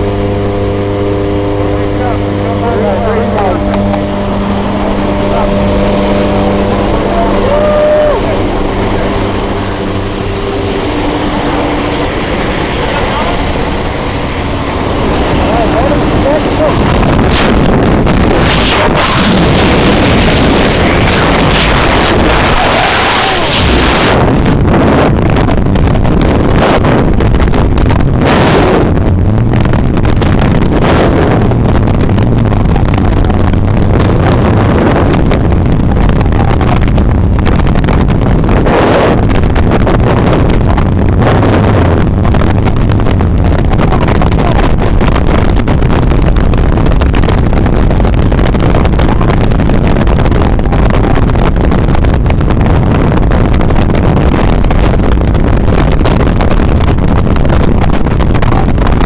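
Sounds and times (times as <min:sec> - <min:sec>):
low engine drone: 0:00.0 - 0:59.0
wind buffeting microphone: 0:00.0 - 0:59.0.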